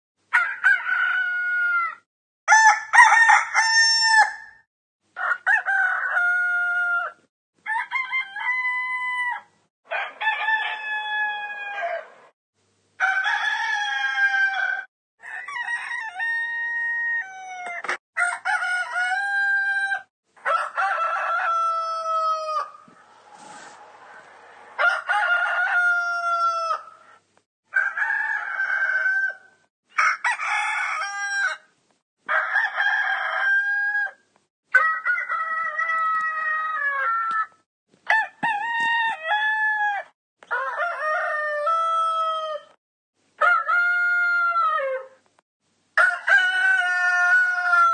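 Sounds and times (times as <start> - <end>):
rooster crowing: 0.3 - 4.6, 5.2 - 12.3, 13.0 - 31.7, 32.3 - 34.2, 38.1 - 42.8, 46.0 - 47.9.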